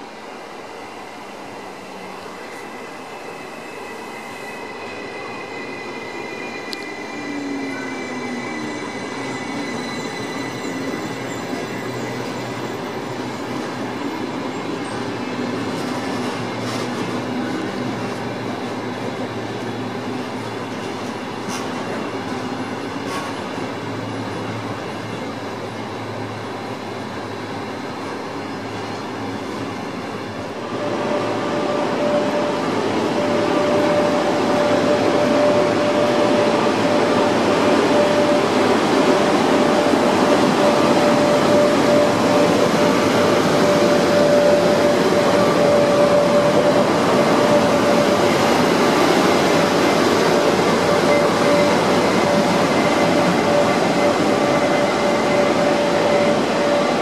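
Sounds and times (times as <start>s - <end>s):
electric locomotive whine: 0.0s - 57.0s
train rolling on rails: 0.0s - 57.0s.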